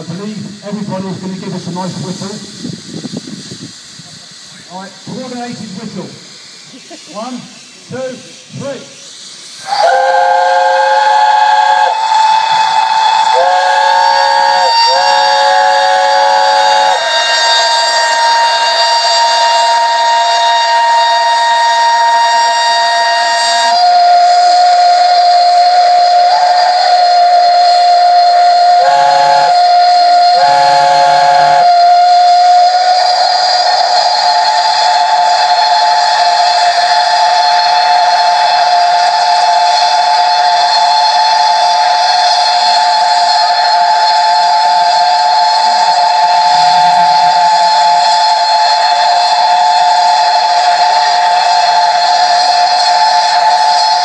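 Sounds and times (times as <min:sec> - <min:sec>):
hiss of escaping steam: 0:00.0 - 0:54.0
steam locomotive whistles: 0:00.0 - 0:54.0.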